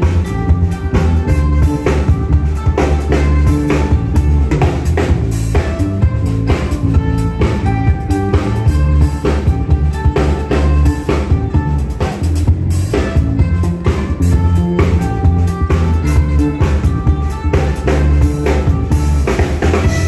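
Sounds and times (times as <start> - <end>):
electric bass line: 0.0 - 20.0
fiddle: 0.0 - 20.0
live band playing: 0.0 - 20.0
steady drumming: 0.0 - 20.0.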